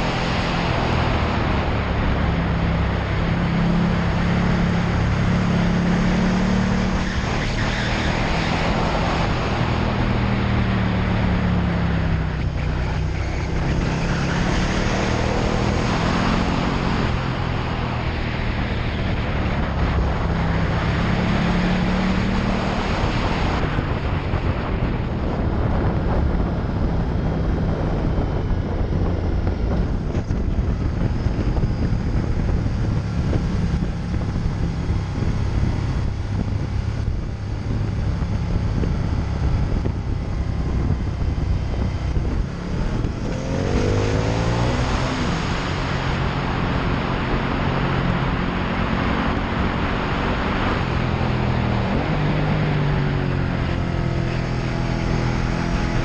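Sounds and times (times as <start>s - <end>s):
motorcycle engine running at speed: 0.0s - 56.0s
wind rushing over microphone: 0.0s - 56.0s.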